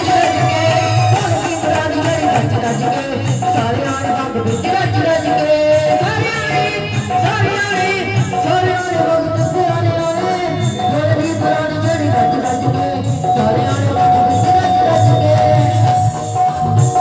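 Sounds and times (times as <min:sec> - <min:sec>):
keyboard: 0:00.0 - 0:17.0
man singing: 0:00.0 - 0:17.0
steady drum rhythm: 0:00.0 - 0:17.0.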